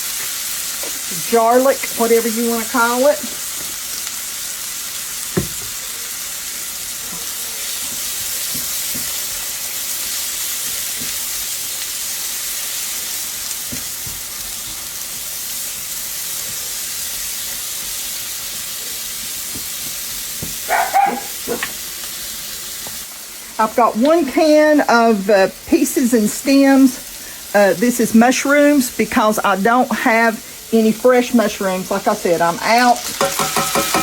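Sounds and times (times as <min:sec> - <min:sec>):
onions sizzling in skillet: 0:00.0 - 0:34.0.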